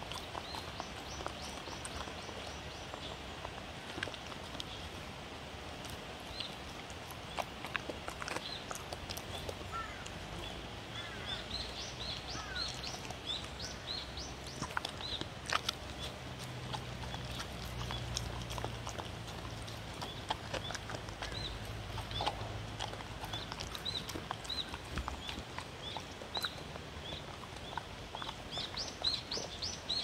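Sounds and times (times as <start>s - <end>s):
dog chewing vegetables: 0.0s - 30.0s
small birds chirping: 0.0s - 30.0s.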